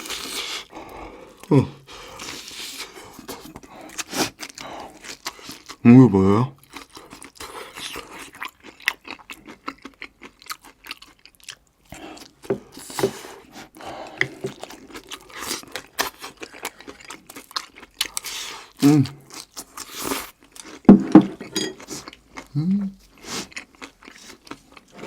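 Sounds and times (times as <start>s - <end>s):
person chewing and crunching food: 0.0s - 5.9s, 6.5s - 25.0s.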